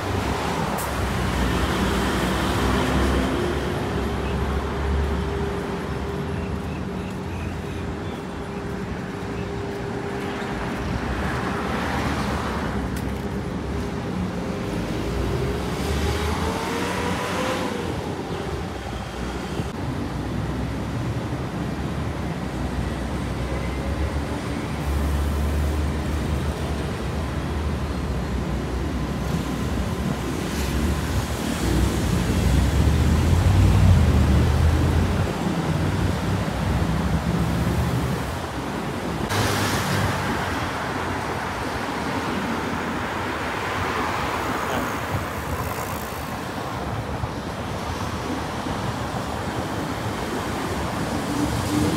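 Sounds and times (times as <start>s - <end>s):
road traffic passing: 0.0s - 51.9s.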